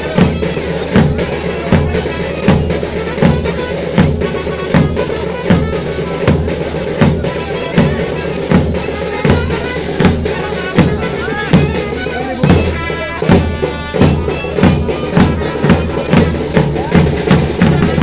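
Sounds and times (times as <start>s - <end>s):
dhol drums beating: 0.0s - 18.0s.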